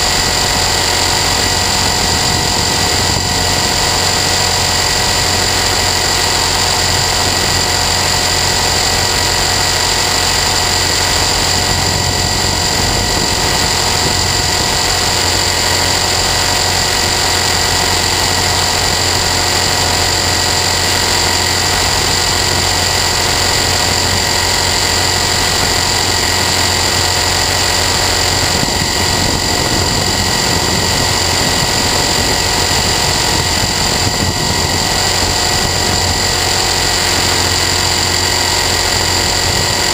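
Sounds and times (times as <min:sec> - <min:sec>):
motor and gears whining: 0:00.0 - 0:39.9
rotor humming: 0:00.0 - 0:39.9.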